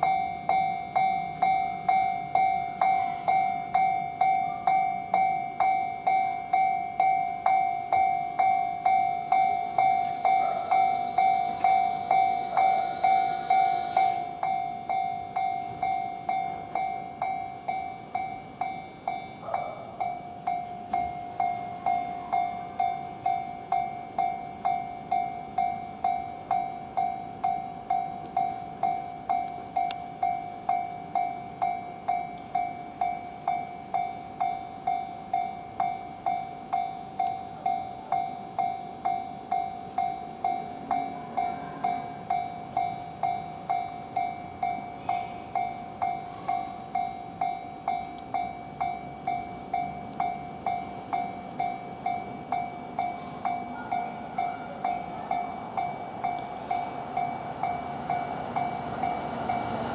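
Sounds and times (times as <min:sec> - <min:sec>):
level crossing alarm ding: 0:00.0 - 0:59.8.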